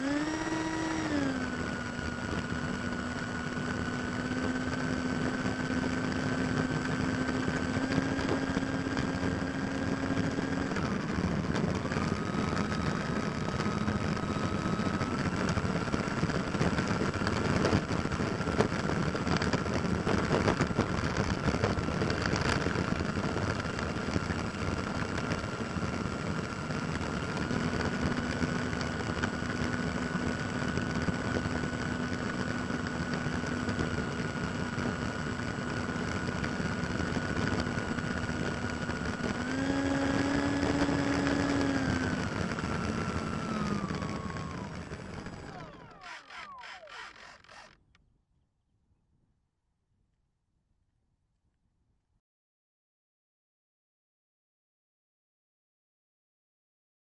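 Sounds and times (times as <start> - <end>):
small wheels rolling on asphalt: 0.0 - 47.8
electric ducted fan whining: 0.0 - 48.0.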